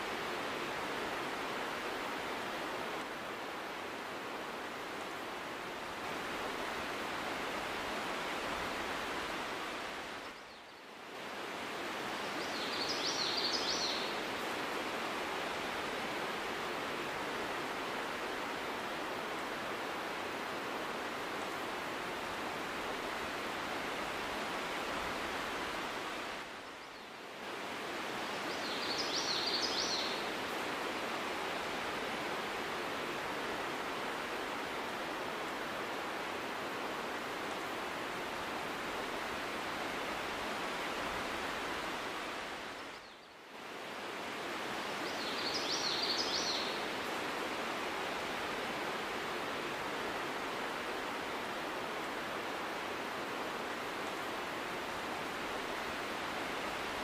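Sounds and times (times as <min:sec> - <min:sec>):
rustling hiss of background noise: 0:00.0 - 0:57.0.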